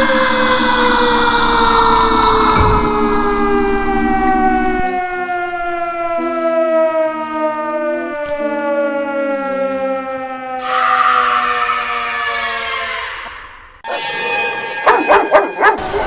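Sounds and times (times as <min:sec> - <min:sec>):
siren winding down: 0:00.0 - 0:16.0.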